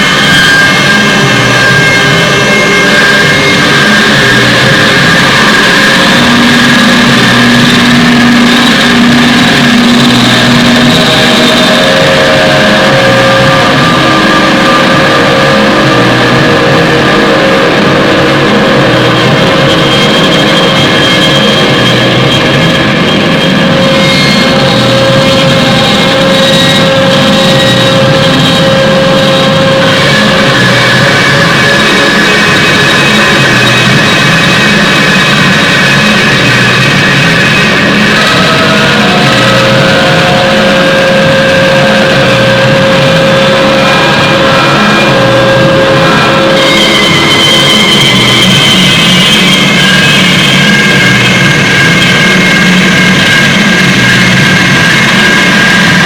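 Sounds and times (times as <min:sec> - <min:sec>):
dense drone of sustained tones: 0:00.0 - 0:56.0
noisy haze: 0:00.0 - 0:56.0.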